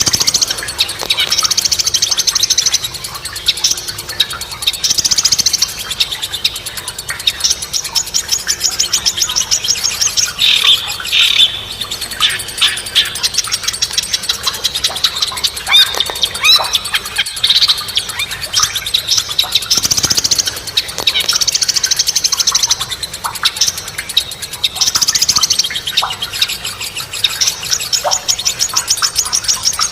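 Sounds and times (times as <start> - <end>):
songbird buzzy trills and chirps: 0.0 - 29.9.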